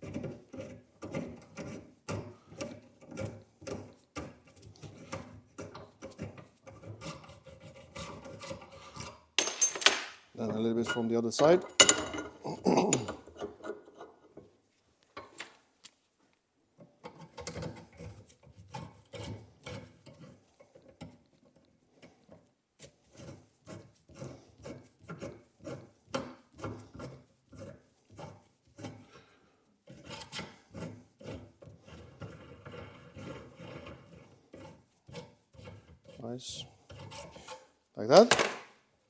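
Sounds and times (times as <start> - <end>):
hand tool scraping metal: 0.0 - 14.2, 17.0 - 38.3.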